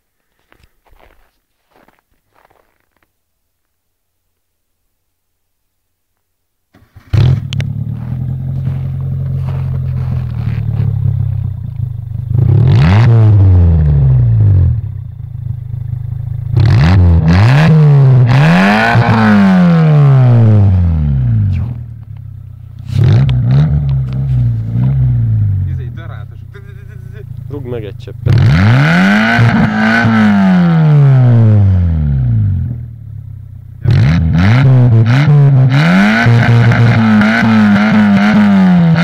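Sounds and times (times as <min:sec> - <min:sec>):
car engine idling and revving: 0:06.8 - 0:39.0.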